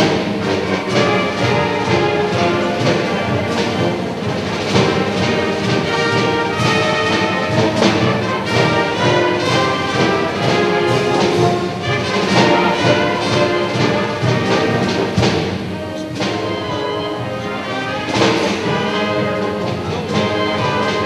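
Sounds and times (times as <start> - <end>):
orchestral music with brass: 0.0 - 21.0.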